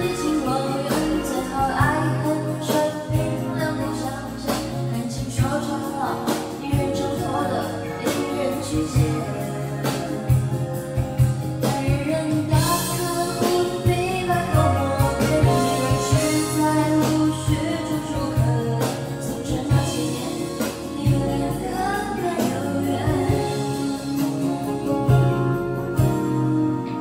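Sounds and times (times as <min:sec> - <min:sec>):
backing track with steady beat: 0:00.0 - 0:27.0
person singing into a microphone: 0:00.0 - 0:27.0.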